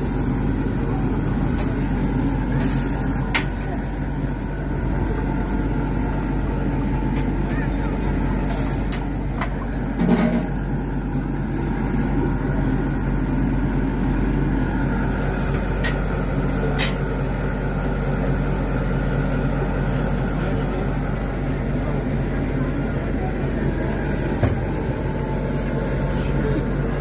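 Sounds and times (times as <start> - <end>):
gas grill hum and hiss: 0.0 - 27.0.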